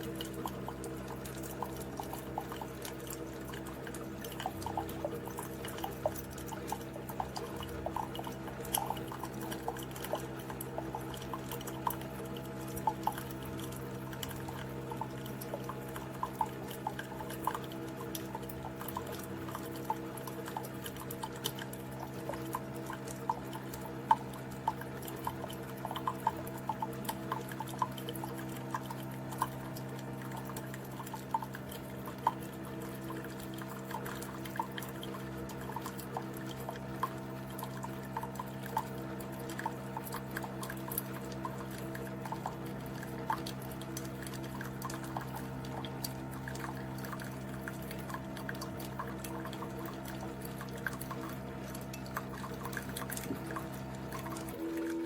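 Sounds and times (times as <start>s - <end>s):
coffee dripping into cup: 0.0s - 55.0s
coffee maker pump hum: 0.0s - 55.0s.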